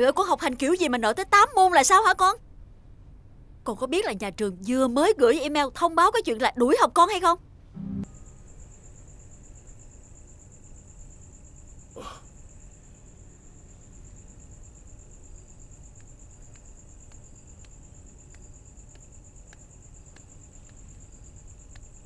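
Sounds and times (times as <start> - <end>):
crickets chirping: 0.0 - 7.4, 8.0 - 22.0.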